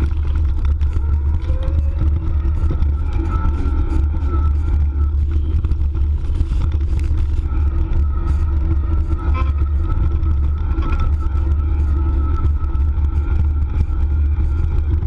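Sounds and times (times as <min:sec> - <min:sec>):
faint motor whine: 0:00.0 - 0:15.0
wind and trail rumble: 0:00.0 - 0:15.0.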